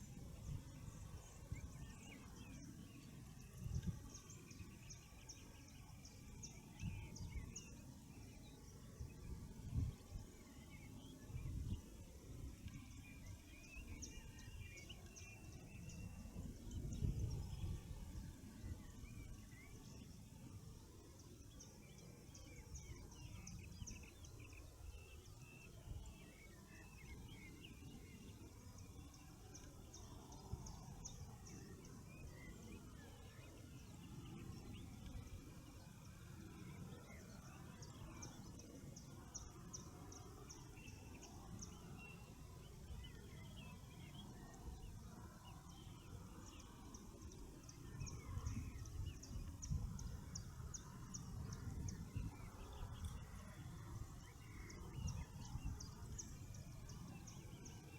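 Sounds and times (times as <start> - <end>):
birds singing: 0.0 - 57.9.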